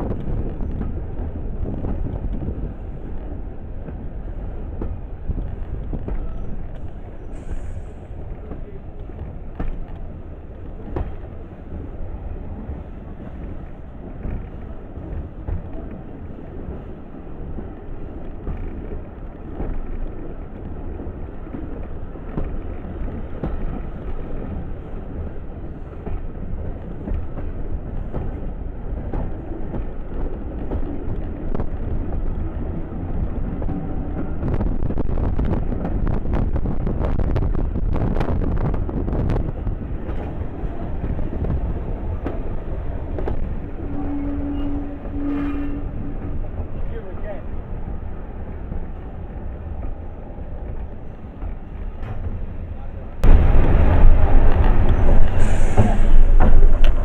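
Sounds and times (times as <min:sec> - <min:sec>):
moving train rumble: 0:00.0 - 0:57.0
wind buffeting microphone: 0:00.0 - 0:57.0.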